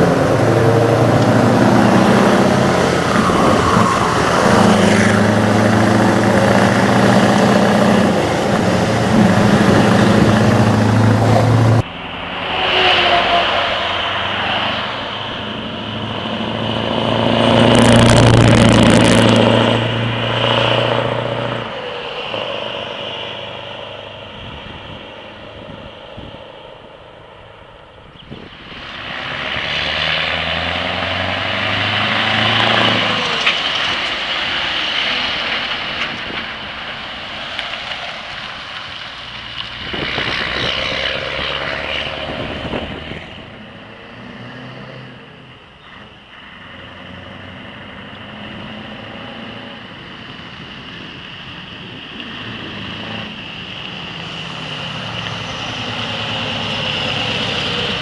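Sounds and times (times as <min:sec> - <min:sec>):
diesel truck engines passing: 0:00.0 - 0:58.0.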